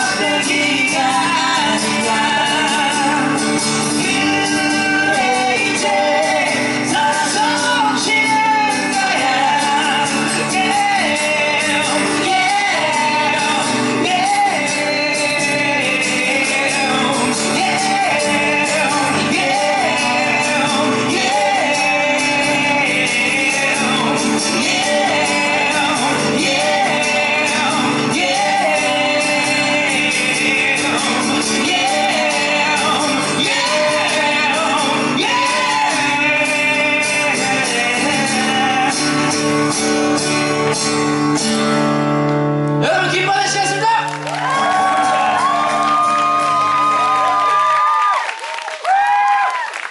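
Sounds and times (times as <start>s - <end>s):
men singing: 0.0s - 40.0s, 44.4s - 47.2s
acoustic guitar strumming: 0.0s - 47.6s.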